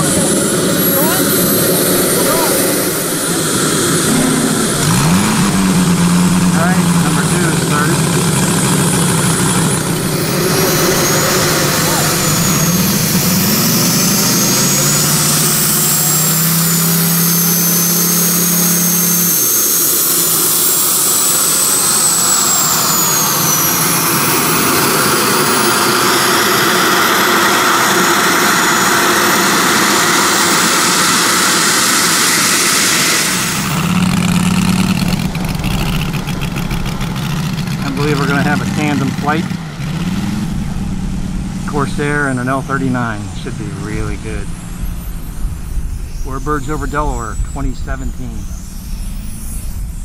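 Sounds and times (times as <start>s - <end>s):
low drone: 0.0s - 50.0s
model jet turbine whine: 0.0s - 50.0s
propeller engine idling: 0.0s - 50.0s.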